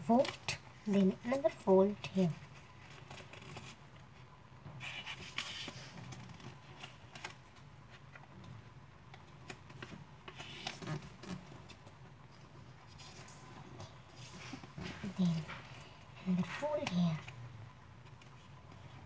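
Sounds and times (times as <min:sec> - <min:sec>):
paper rustling and crinkling: 0:00.0 - 0:04.2, 0:04.8 - 0:08.3, 0:09.2 - 0:17.4.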